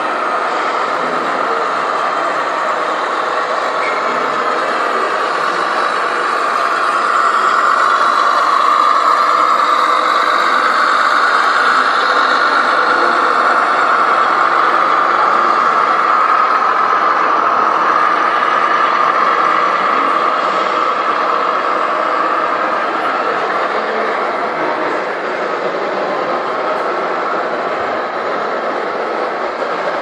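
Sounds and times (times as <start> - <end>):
toy truck motor hum: 0.9 - 27.9.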